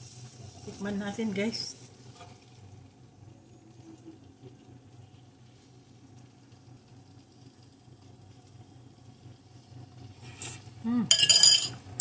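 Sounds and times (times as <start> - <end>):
sauce simmering in a skillet: 0.0 - 11.1.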